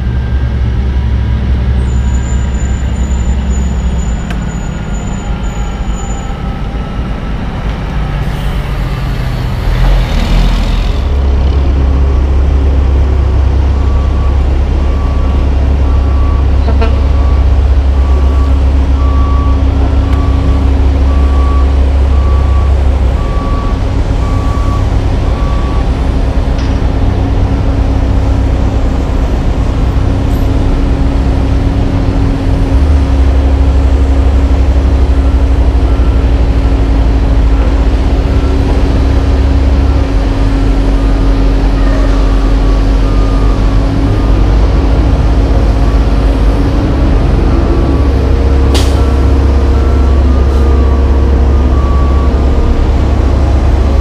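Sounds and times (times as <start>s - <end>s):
diesel truck engines running: 0.0s - 54.0s.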